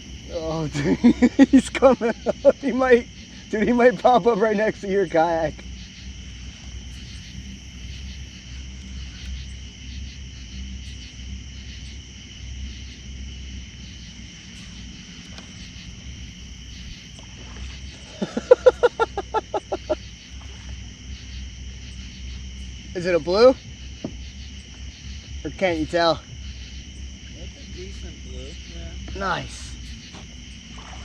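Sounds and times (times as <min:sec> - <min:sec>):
low hum: 0:00.0 - 0:31.0
night insects chirring: 0:00.0 - 0:31.0.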